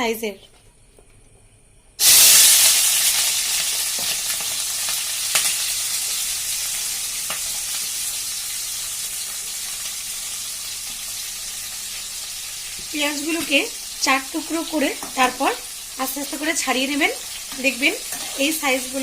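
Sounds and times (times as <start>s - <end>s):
onions sizzling in hot oil: 2.0s - 19.0s.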